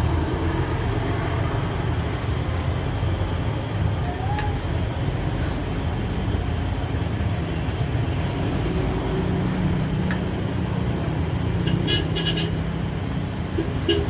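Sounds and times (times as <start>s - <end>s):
engine running with low rumble: 0.0s - 14.0s.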